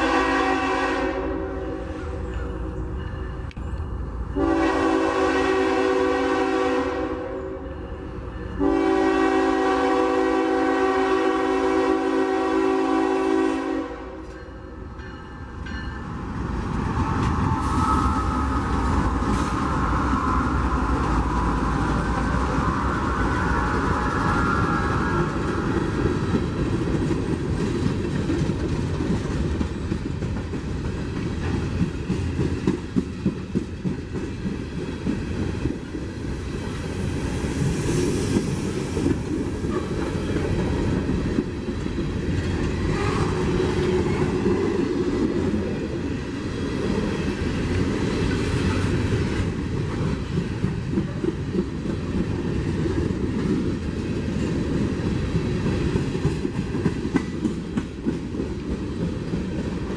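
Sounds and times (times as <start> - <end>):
freight train wheels clickety-clack: 7.7 - 59.9.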